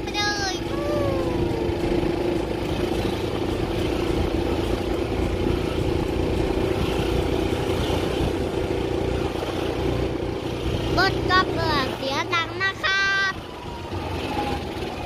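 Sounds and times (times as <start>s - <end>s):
road and wind noise: 0.0s - 15.0s
vehicle motor hum: 0.0s - 15.0s.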